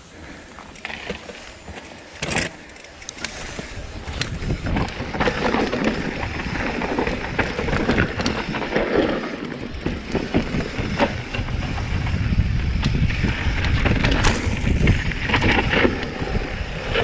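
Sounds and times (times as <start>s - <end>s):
bike rattling with sharp knocks: 0.6s - 17.0s
tyres rumbling over dirt and stones: 3.2s - 17.0s.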